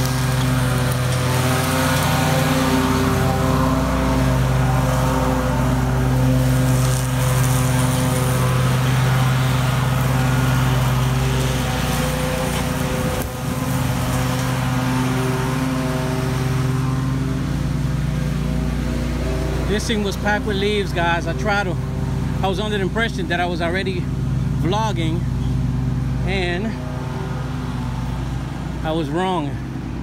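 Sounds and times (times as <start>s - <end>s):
mower engine running: 0.0s - 30.0s.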